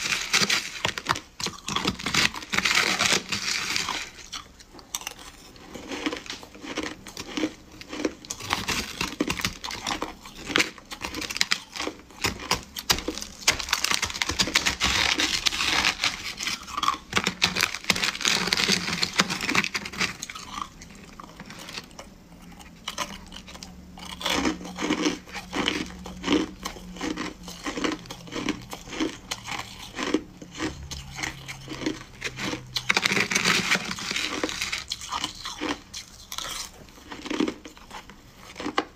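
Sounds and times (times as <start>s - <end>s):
ice being chewed: 0.0s - 38.9s
metal spoon scraping ice: 5.0s - 22.0s, 22.9s - 38.8s.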